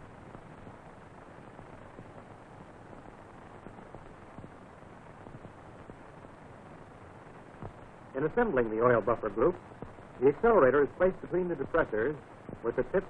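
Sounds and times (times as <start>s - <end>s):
faint crackles: 0.0s - 13.0s
film soundtrack hiss: 0.0s - 13.0s.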